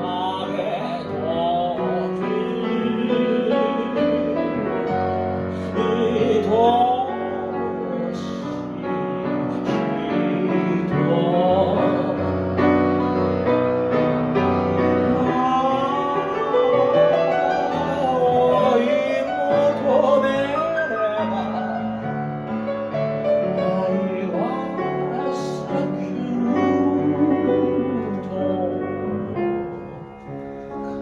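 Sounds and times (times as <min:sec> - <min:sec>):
person singing with vibrato: 0:00.0 - 0:12.8, 0:14.8 - 0:22.2, 0:23.4 - 0:30.2
piano accompaniment: 0:00.0 - 0:31.0.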